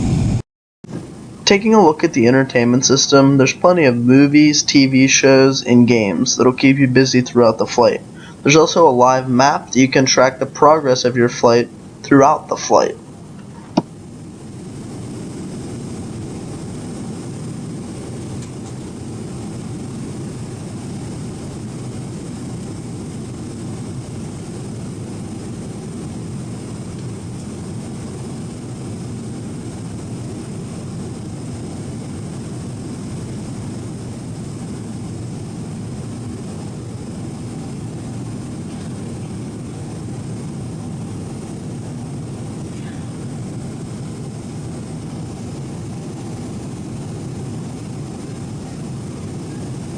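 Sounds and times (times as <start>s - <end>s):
airplane cabin engine noise: 0.0s - 49.9s
faint high whine: 0.0s - 49.9s.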